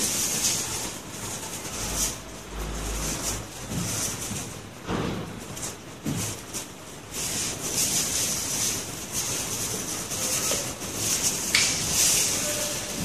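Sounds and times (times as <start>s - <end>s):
scraping over glass: 0.0s - 13.0s.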